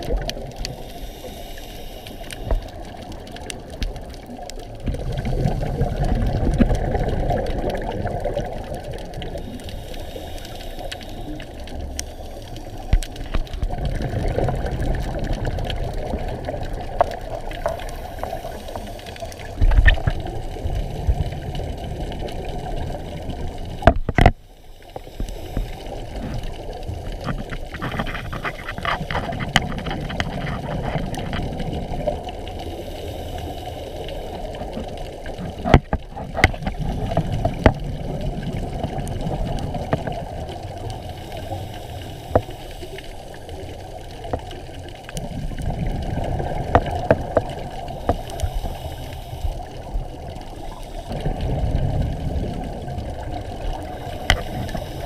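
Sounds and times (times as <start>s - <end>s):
low underwater rushing noise: 0.0s - 55.0s.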